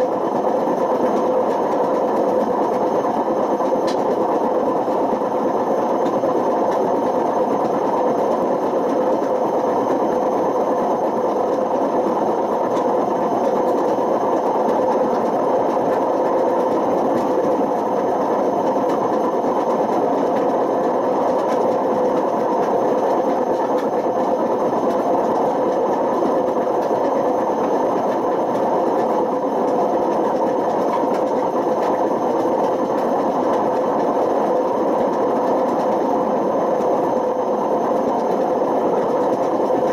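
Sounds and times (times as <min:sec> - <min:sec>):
washing machine drone: 0:00.0 - 0:39.9.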